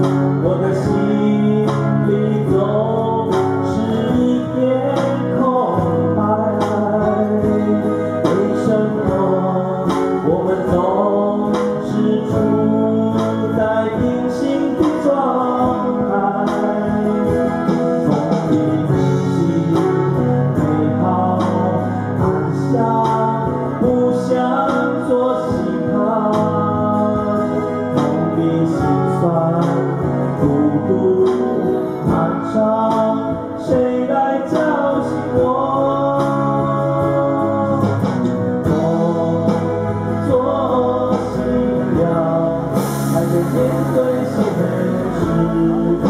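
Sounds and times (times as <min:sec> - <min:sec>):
amplified guitars strummed: 0:00.0 - 0:46.0
men singing through microphones: 0:00.0 - 0:46.0.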